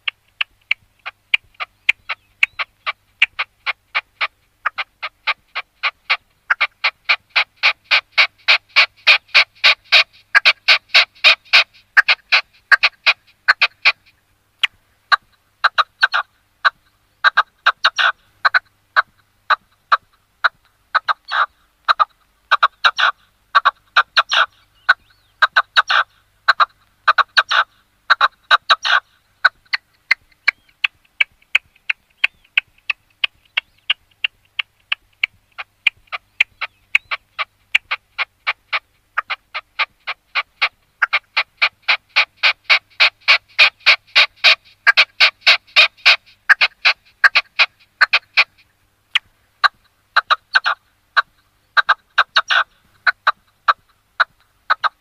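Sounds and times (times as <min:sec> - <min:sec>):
partridge calling: 0:00.0 - 0:55.0.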